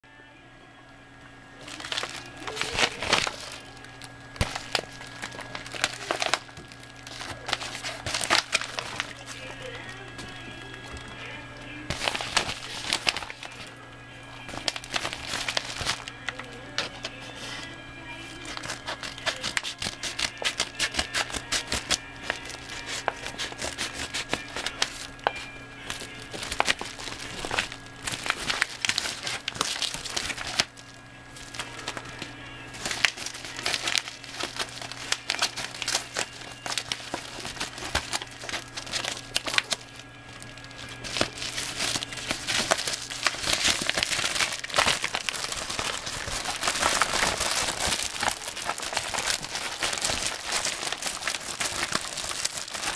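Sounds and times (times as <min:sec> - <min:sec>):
faint steady hum: 0:00.0 - 0:52.9
paper envelope crinkling: 0:01.6 - 0:52.9.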